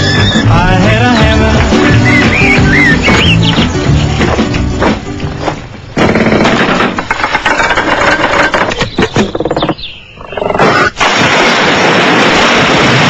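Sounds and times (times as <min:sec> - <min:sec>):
house structure creaking and rattling: 0:00.0 - 0:13.0.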